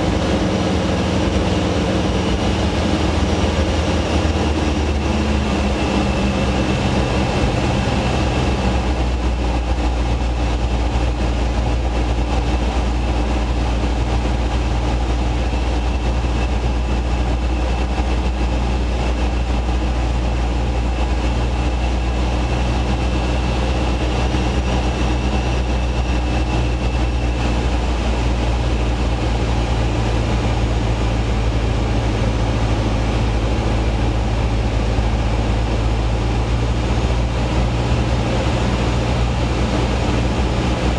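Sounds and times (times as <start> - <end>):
aircraft engine droning: 0.0 - 40.9.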